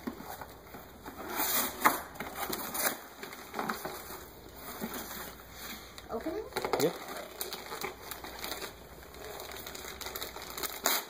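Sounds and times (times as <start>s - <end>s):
package rustling: 0.0s - 11.0s.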